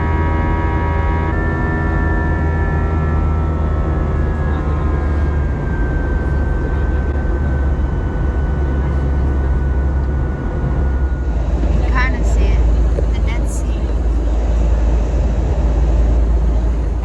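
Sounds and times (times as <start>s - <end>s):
jet engine rumble in cabin: 0.0s - 17.0s
thin engine whine: 0.0s - 17.0s.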